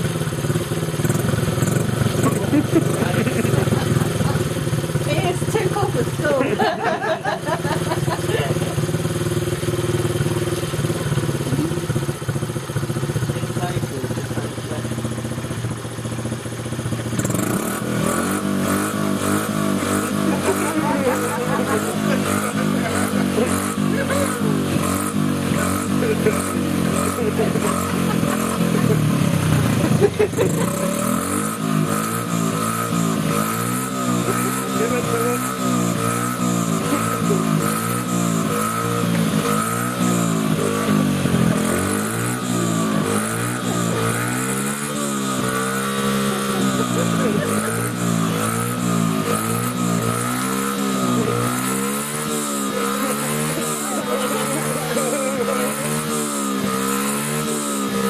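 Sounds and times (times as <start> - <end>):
small motorbike engine revving: 0.0 - 58.0.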